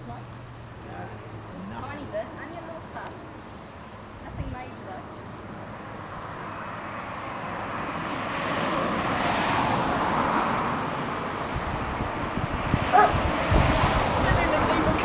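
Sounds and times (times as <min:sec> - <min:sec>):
car passing on road: 0:00.0 - 0:15.0
faint insects chirping: 0:00.0 - 0:15.0.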